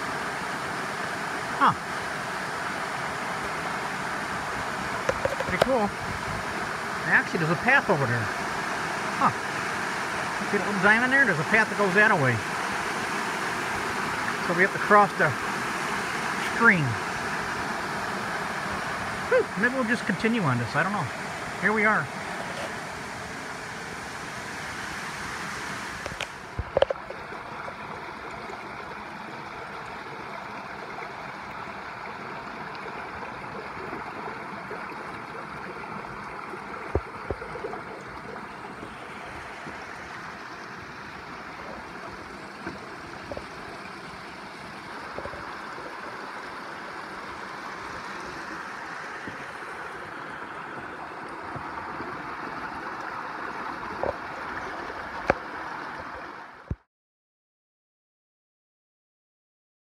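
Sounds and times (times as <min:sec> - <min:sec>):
stream splashing over boulders: 0:00.0 - 0:56.9.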